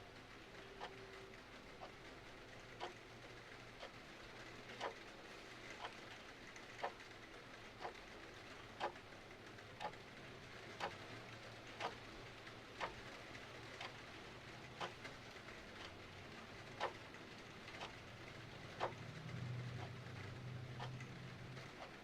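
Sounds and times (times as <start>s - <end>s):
mechanical clock ticking: 0.6s - 22.0s.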